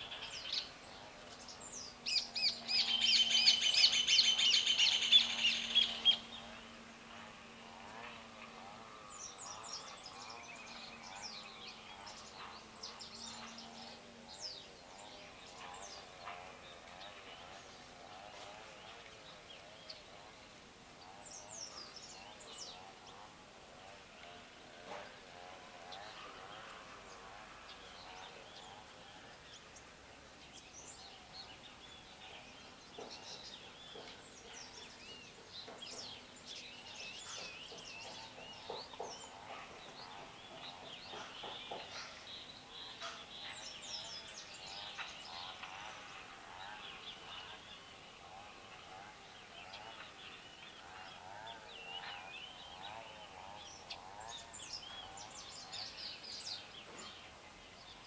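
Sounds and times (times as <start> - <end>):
faint outdoor hiss: 0.0 - 58.0
songbirds chirping: 0.0 - 58.0.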